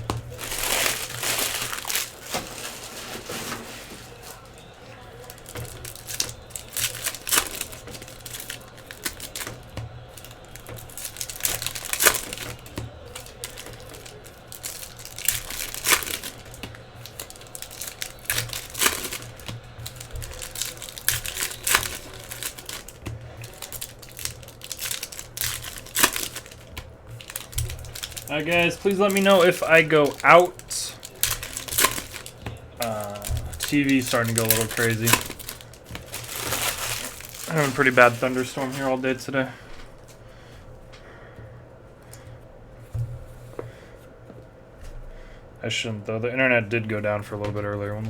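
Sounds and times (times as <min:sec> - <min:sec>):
foil wrappers crinkling and tearing: 0:00.0 - 0:40.6.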